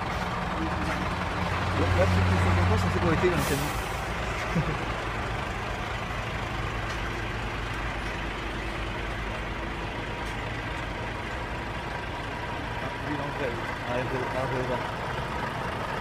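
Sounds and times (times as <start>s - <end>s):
diesel lorry engines idling: 0.0s - 16.0s.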